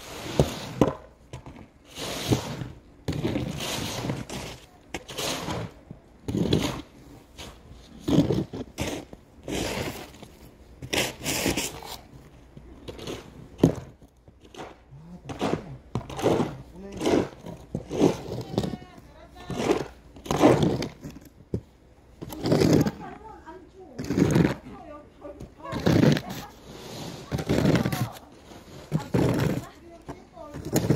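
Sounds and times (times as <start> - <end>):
snow shovels scraping: 0.0 - 21.6, 22.2 - 30.9.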